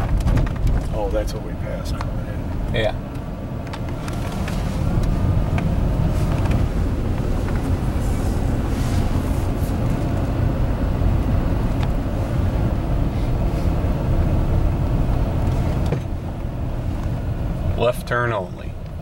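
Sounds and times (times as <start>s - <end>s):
engine and road noise rumble: 0.0s - 19.0s.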